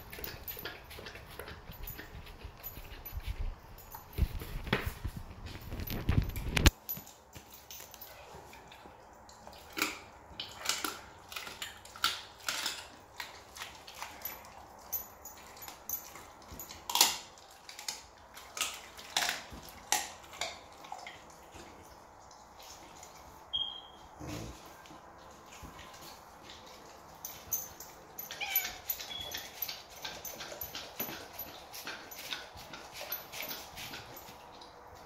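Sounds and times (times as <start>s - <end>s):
dog chewing with crunches: 0.0s - 35.0s.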